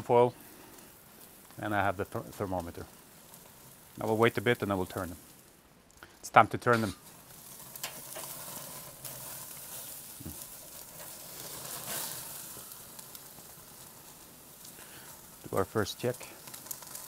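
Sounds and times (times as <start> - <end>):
steaks sizzling on grill: 0.0 - 17.0.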